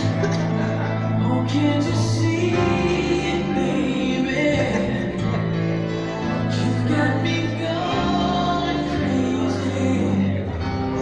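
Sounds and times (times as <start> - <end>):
song over loudspeakers: 0.0 - 11.0.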